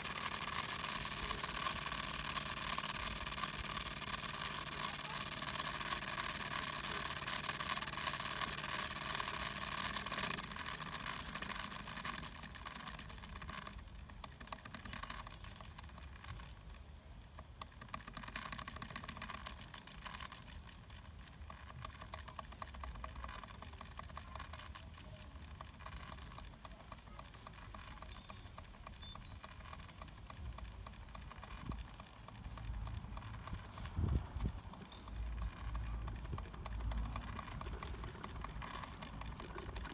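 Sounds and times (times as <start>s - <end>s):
steam engine ticking: 0.0s - 39.9s.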